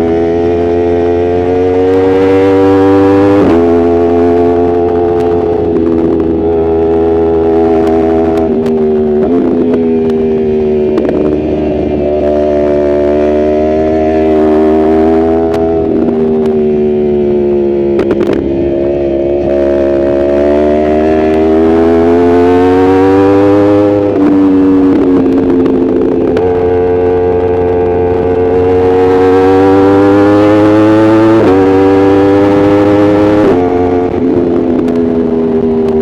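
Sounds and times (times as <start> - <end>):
motorcycle engine revving: 0.0 - 36.0
wind rush: 1.4 - 36.0.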